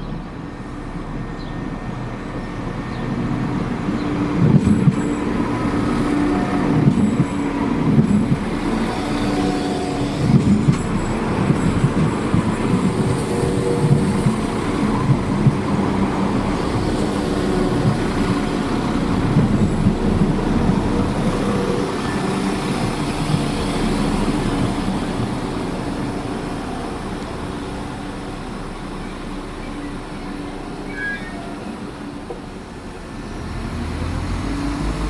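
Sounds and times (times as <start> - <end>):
diesel train engine humming: 0.0 - 35.0.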